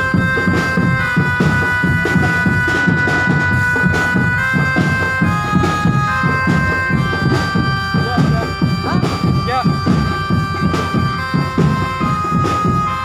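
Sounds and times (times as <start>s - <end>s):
reedy wind instrument melody: 0.0s - 13.0s
steady drum beat: 0.0s - 13.0s.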